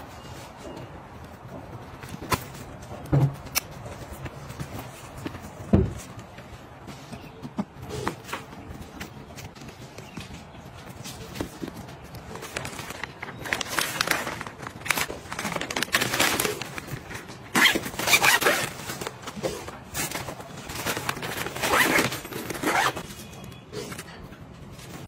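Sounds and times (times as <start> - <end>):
fabric rustling and scraping: 0.0 - 25.0.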